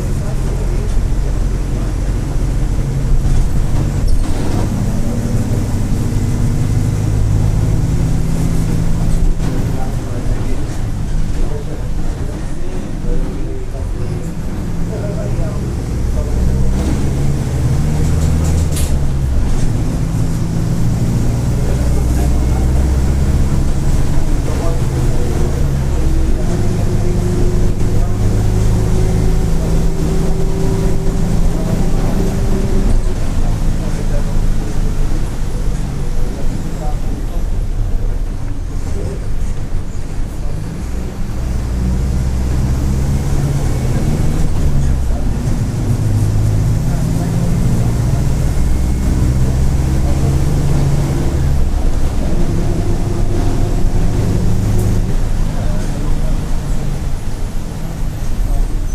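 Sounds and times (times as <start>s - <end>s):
diesel bus engine droning: 0.0s - 58.9s.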